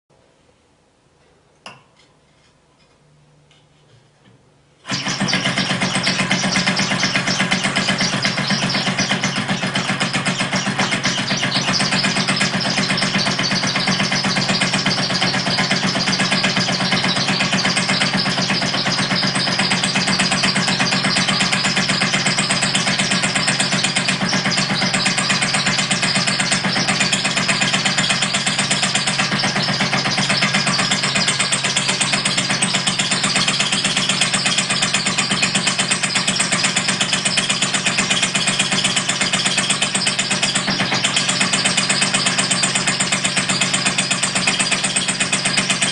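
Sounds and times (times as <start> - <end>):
small engine running steadily: 4.8 - 45.9
rubber hen squeaking: 4.9 - 45.9.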